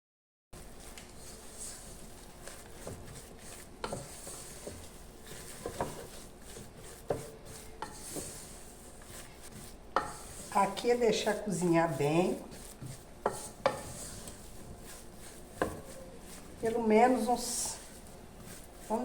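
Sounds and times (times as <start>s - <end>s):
spoon scraping dough in pan: 0.6s - 19.0s.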